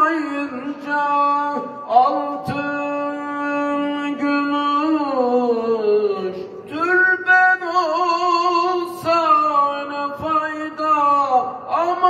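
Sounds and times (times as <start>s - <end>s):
man singing a hymn unaccompanied: 0.0s - 12.0s.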